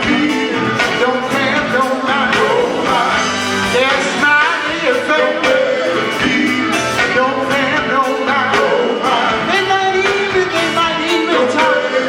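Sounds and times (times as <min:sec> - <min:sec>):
instrumental backing: 0:00.0 - 0:12.0
male group singing gospel: 0:00.0 - 0:12.0
steady drum beat: 0:00.0 - 0:12.0.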